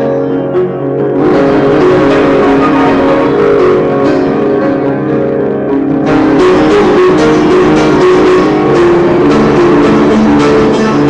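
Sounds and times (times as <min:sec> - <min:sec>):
upright piano playing: 0:00.0 - 0:11.0.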